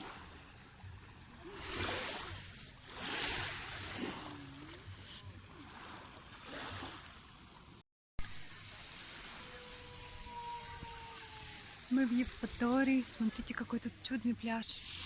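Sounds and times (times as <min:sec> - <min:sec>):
small waves washing onto shore: 0:00.0 - 0:14.0.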